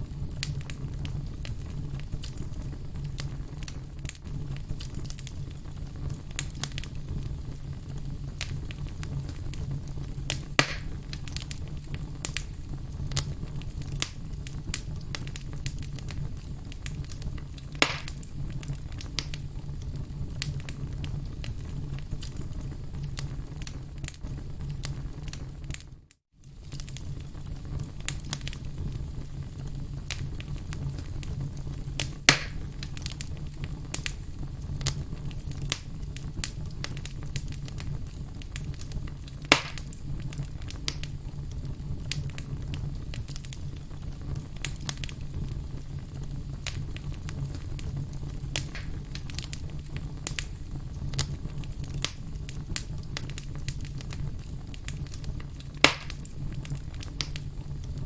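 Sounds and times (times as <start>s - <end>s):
firewood crackling and popping: 0.0s - 58.0s.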